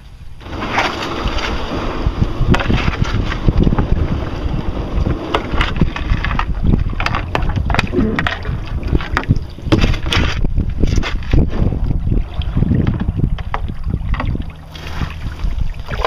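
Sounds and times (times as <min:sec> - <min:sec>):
wind buffeting microphone: 0:00.0 - 0:16.0
water splashing against canoe hull: 0:00.4 - 0:16.0.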